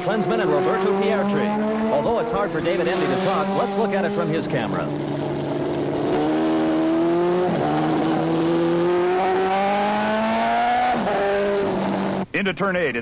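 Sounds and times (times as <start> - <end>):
motorcycle engine accelerating: 0.0 - 12.3.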